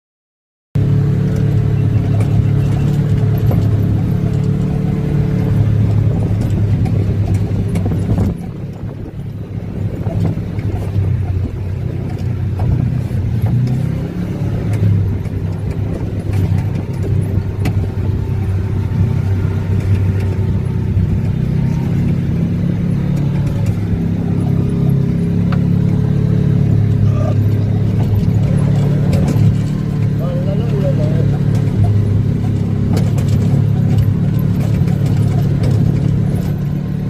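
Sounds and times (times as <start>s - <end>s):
off-road vehicle engine running: 0.8s - 37.0s
sharp ticks and rattles: 1.3s - 37.0s.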